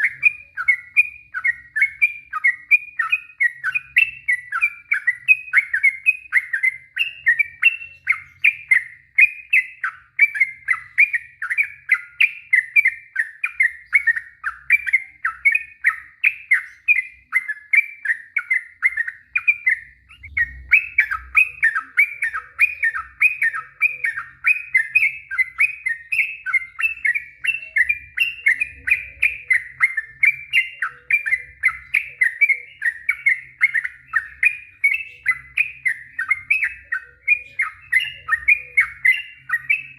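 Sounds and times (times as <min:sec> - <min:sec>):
bird singing chattering whistles: 0:00.0 - 0:39.9.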